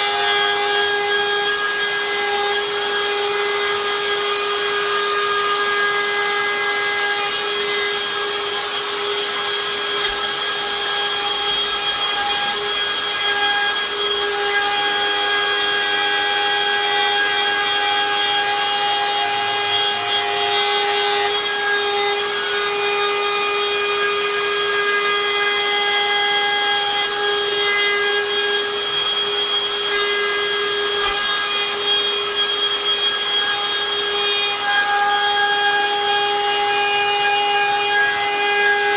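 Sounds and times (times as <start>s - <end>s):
router cutting wood: 0.0s - 38.9s.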